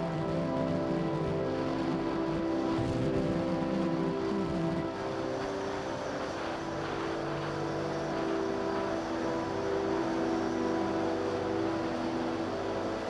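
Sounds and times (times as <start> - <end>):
model plane motor droning: 0.0 - 13.0.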